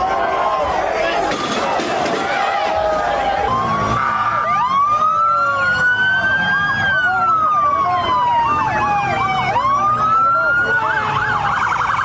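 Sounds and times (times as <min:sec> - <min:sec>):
emergency vehicle siren wailing: 0:00.0 - 0:12.0
fast rising and falling siren: 0:01.7 - 0:12.0.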